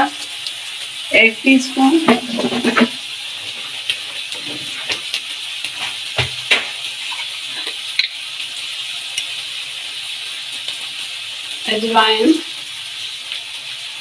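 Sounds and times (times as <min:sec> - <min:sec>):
masala sizzling with crackles: 0:00.0 - 0:14.0.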